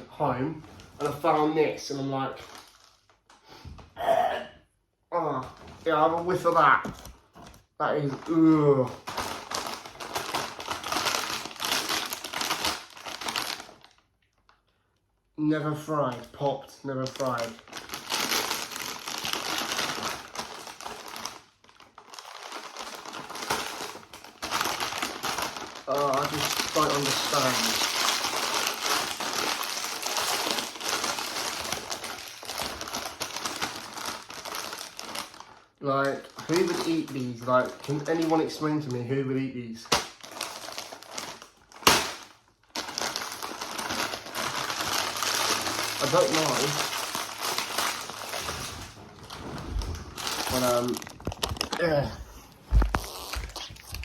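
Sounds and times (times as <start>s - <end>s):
plastic snack packet crinkling: 1.0s - 3.4s, 5.8s - 15.0s, 15.7s - 48.8s, 50.2s - 54.0s.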